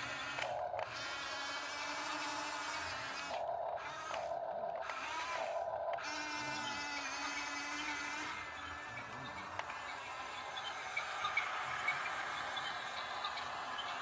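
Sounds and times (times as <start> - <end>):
small electric motors whirring: 0.0 - 14.0.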